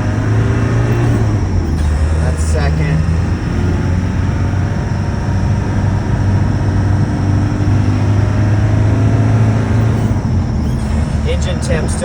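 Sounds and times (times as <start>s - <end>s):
turbocharged engine pulling: 0.0s - 12.0s.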